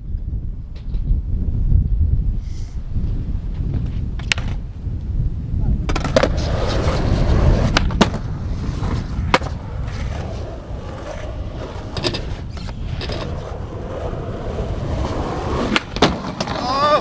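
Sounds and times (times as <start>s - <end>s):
wind buffeting microphone: 0.0s - 17.0s
skateboard rolling on concrete: 0.2s - 17.0s
skateboard clacks: 3.1s - 17.0s.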